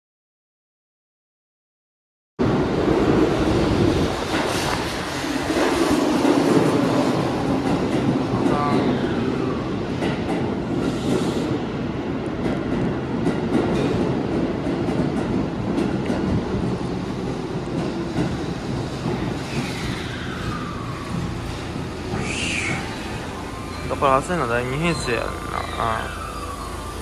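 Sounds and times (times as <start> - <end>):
train wheels rumbling on rail: 2.4 - 27.0.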